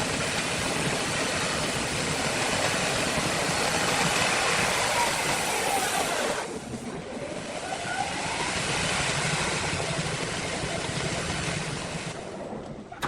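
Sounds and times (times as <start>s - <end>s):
machine engine running: 0.0s - 12.2s.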